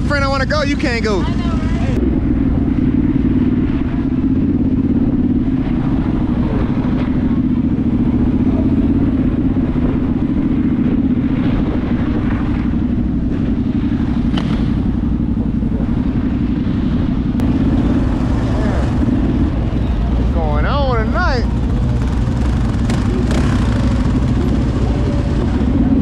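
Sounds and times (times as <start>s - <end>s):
dirt bike engine idling: 0.0s - 26.0s.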